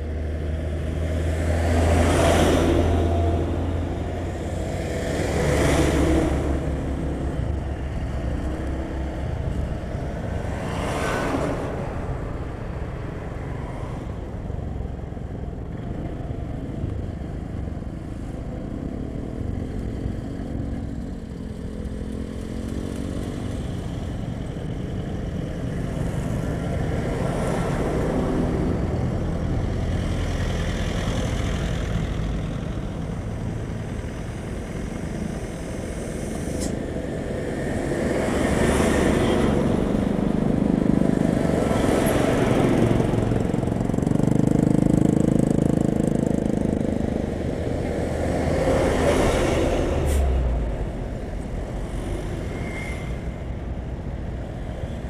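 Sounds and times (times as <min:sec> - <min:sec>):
vehicles passing: 0:00.0 - 0:55.0.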